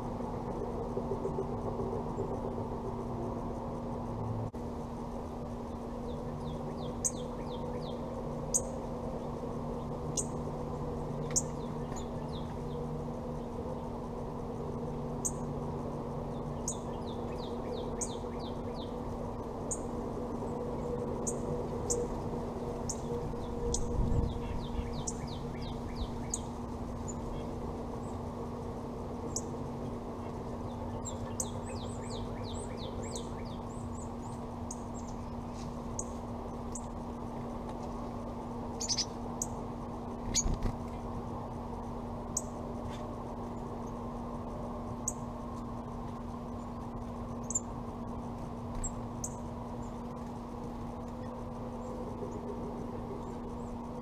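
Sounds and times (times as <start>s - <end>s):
songbirds chirping: 0.0s - 54.0s
steady low hum: 0.0s - 54.0s.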